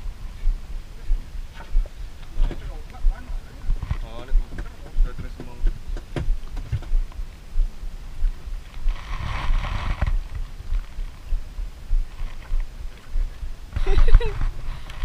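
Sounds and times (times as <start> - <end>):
low regular thumping: 0.0 - 14.8.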